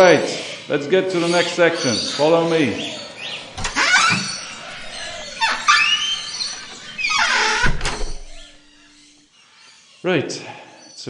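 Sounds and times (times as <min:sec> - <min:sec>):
birds squawking and screeching: 0:00.0 - 0:11.0.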